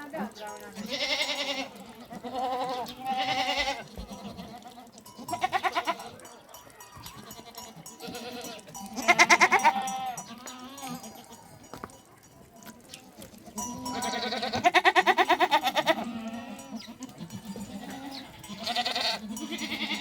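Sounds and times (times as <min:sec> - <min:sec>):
goats bleating: 0:00.5 - 0:11.5, 0:13.1 - 0:20.0.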